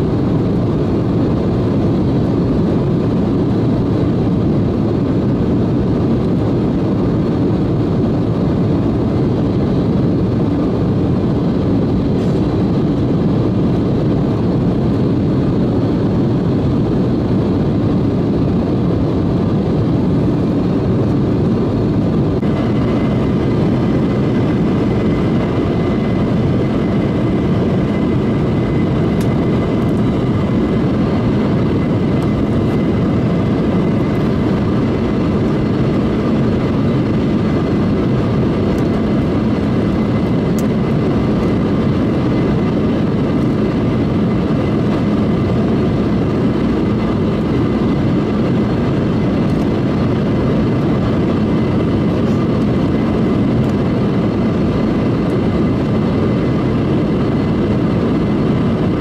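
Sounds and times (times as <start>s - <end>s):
jet cabin engine and airflow noise: 0.0s - 59.0s.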